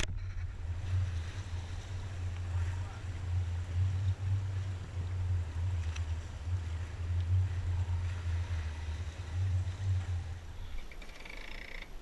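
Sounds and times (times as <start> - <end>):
wind buffeting the microphone: 0.0 - 11.0
rush of water from bow wave: 0.6 - 10.7.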